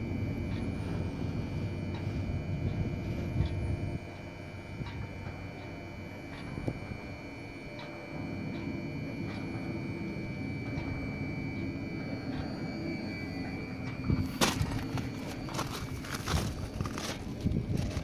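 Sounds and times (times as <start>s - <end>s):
turbine knocking and rattling: 0.0s - 18.0s
wind turbine whine and rumble: 0.0s - 18.0s.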